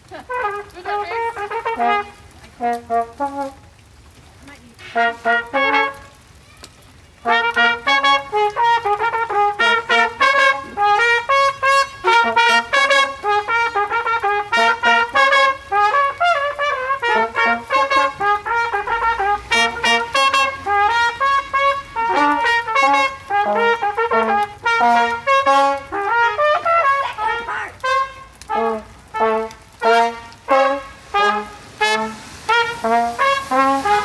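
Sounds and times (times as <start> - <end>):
brass instrument playing: 0.0 - 3.9, 4.7 - 6.2, 7.2 - 34.0.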